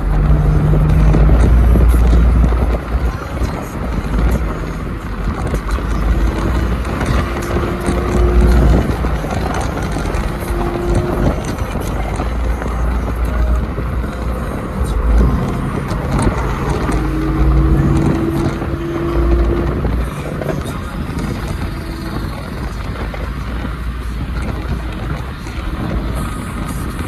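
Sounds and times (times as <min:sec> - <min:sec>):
car engine running: 0:00.0 - 0:27.0
wind buffeting: 0:00.0 - 0:27.0.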